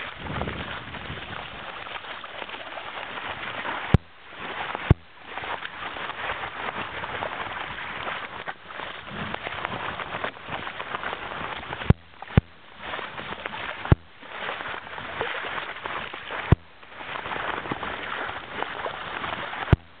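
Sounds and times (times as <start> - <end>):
wind and water rushing: 0.0 - 20.0.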